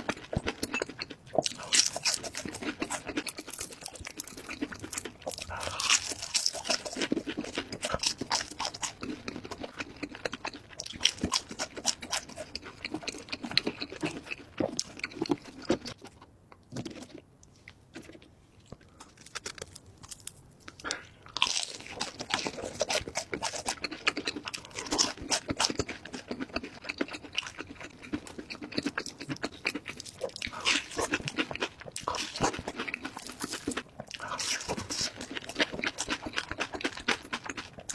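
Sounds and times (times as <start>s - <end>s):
crunching and chewing of fried food: 0.0s - 37.9s.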